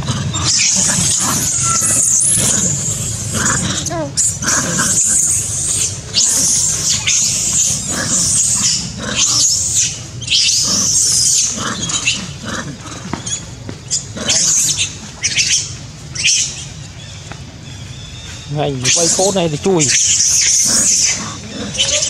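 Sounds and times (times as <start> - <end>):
monkeys screaming: 0.0 - 22.0.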